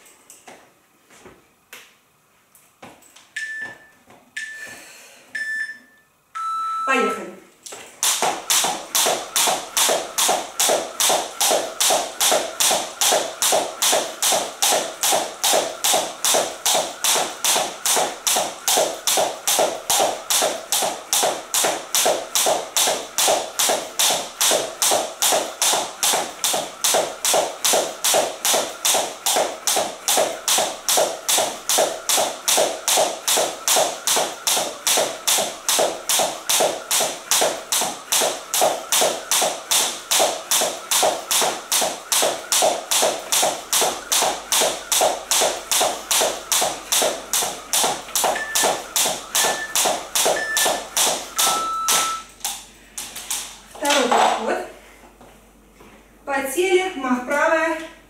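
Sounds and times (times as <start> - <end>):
jump rope tapping floor: 7.7 - 54.5.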